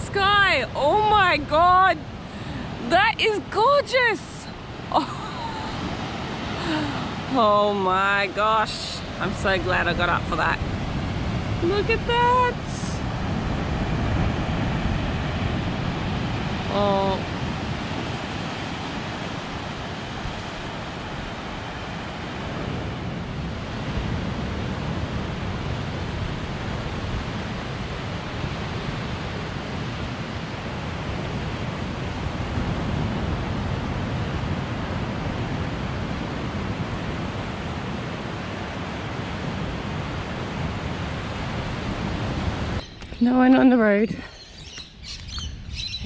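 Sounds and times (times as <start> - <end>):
ocean surf breaking on beach: 0.0 - 43.8.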